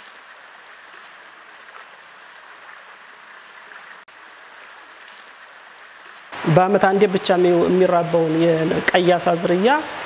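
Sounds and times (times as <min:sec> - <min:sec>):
water rushing and splashing: 0:00.0 - 0:10.0.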